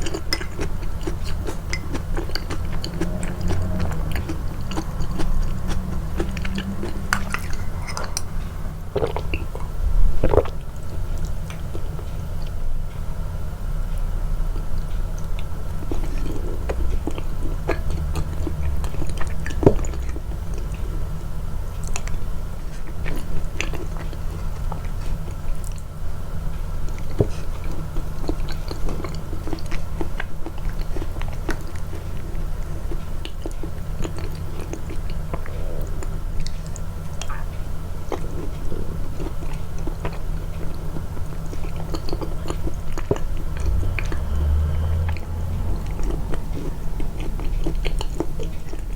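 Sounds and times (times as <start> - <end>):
chewing food close up: 0.0 - 12.6, 13.9 - 48.9
steady low hum: 0.0 - 48.9.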